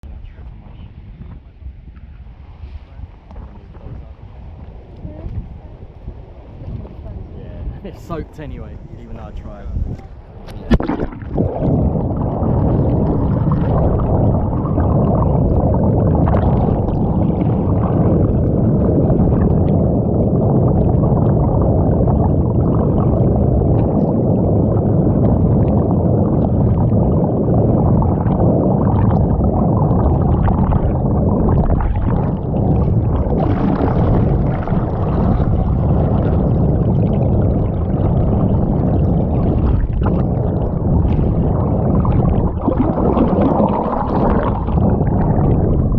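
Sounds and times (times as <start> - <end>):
muffled underwater water rushing: 0.0 - 45.9.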